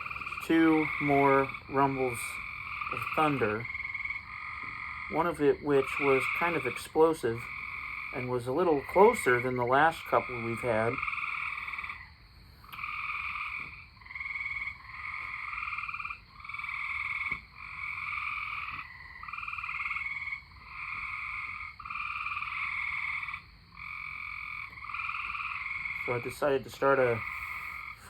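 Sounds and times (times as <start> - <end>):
tree frogs trilling: 0.0 - 28.0.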